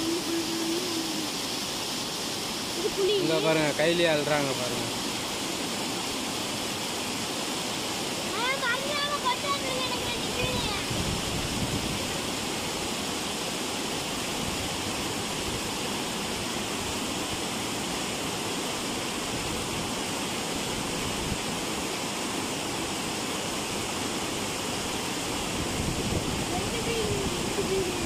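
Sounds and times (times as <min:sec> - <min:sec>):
water gushing into channel: 0:00.0 - 0:28.0.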